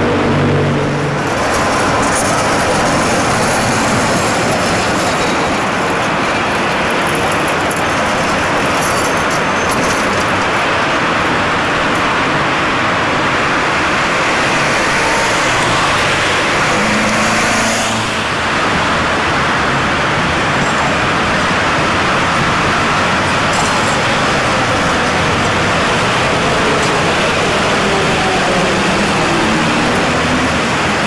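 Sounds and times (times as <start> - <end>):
faint tram whine: 0.0 - 31.0
street traffic noise: 0.0 - 31.0
tram running by: 0.0 - 31.0.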